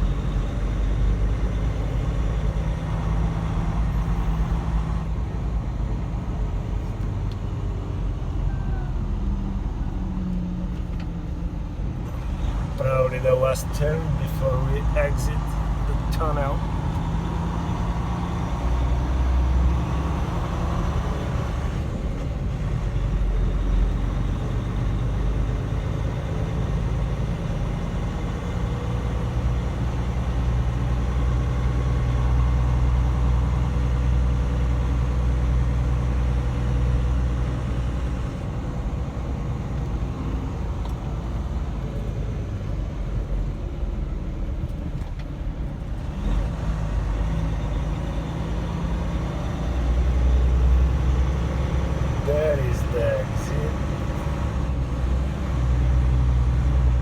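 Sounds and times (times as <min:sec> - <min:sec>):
diesel truck engine driving: 0:00.0 - 0:57.0.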